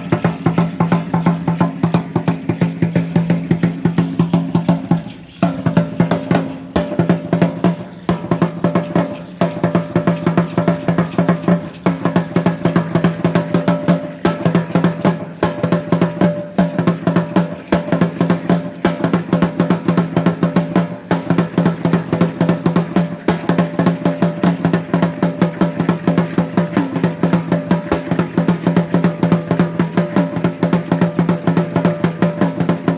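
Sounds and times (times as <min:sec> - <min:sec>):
fast driving drumming: 0:00.0 - 0:32.9.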